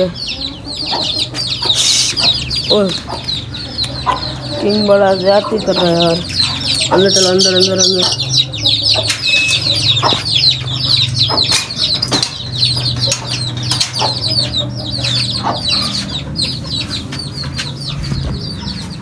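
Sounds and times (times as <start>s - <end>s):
chickens clucking: 0.0s - 19.0s
chicks peeping: 0.0s - 19.0s.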